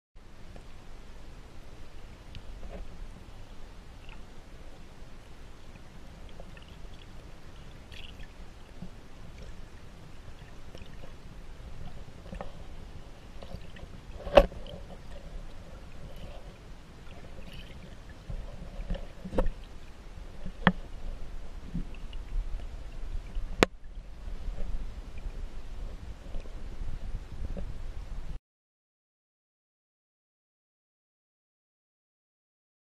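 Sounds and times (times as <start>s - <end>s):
muffled underwater water wash: 0.2s - 28.4s.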